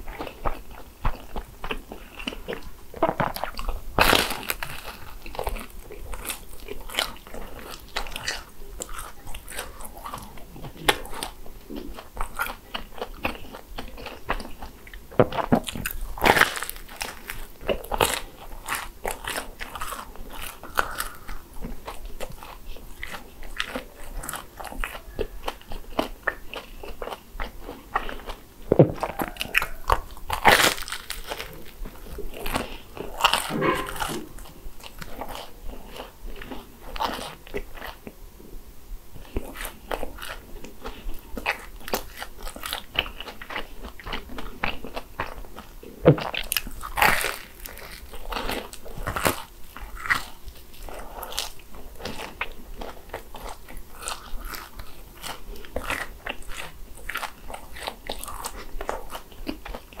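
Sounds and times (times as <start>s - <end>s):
crunchy bites and chewing: 0.0s - 38.2s, 39.2s - 60.0s.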